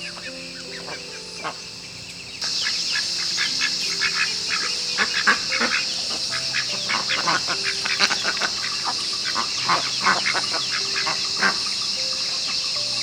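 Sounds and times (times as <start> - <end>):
ducks and geese calling: 0.0 - 13.0
steady high hiss: 0.0 - 13.0.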